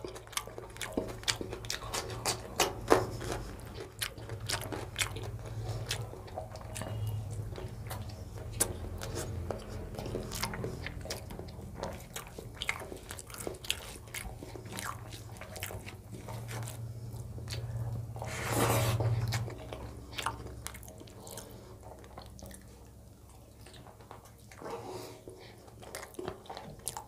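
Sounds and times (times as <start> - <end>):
wet chewing with lip smacks: 0.0 - 27.0.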